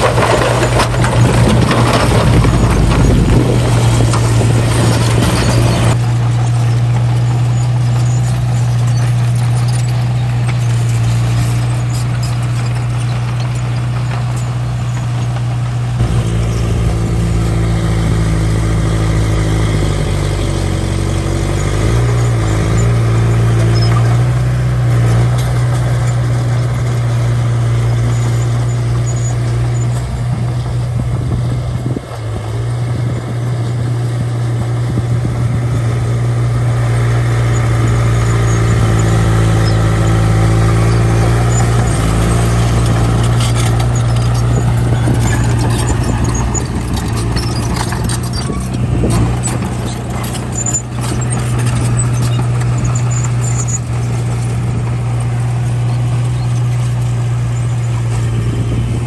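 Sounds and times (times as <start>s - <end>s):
bulldozer diesel engine running: 0.0s - 59.0s
high squeaks and clatter: 0.0s - 59.0s.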